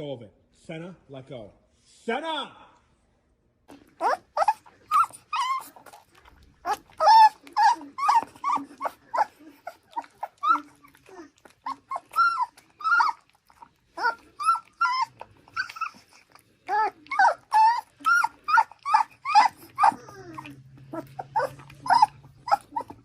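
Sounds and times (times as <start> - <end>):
dog whining and yipping: 3.7 - 23.0.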